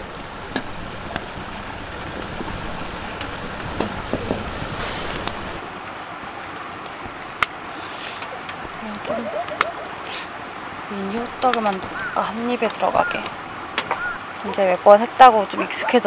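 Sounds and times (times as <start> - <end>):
rushing background noise: 0.0 - 16.0.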